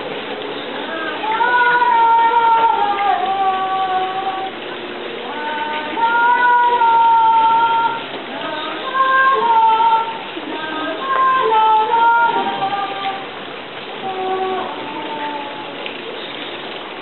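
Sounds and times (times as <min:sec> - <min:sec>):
woman singing unaccompanied: 0:00.0 - 0:16.2.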